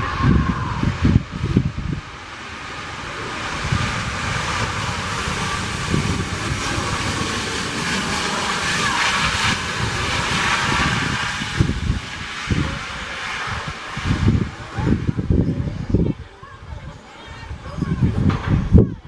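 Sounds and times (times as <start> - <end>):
faint falling whine: 0.0 - 18.8
jet engine roar: 0.0 - 18.8
wind buffeting microphone: 0.0 - 19.0.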